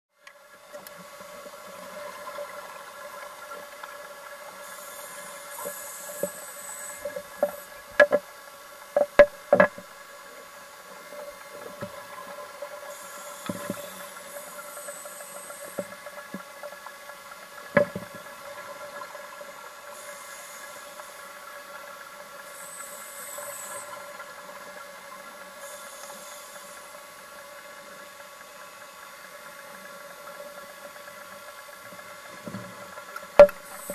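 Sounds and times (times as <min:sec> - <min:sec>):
machinery hum: 0:00.4 - 0:33.9.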